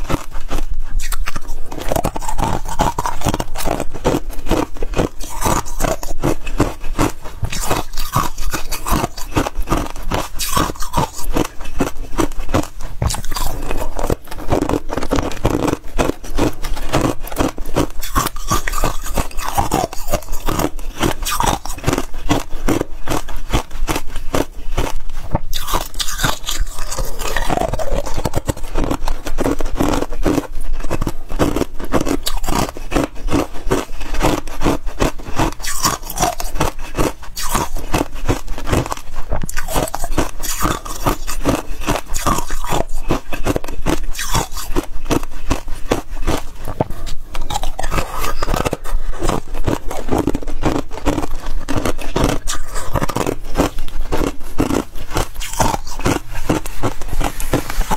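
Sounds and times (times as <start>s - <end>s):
frost crunching and crackling: 0.0s - 57.9s.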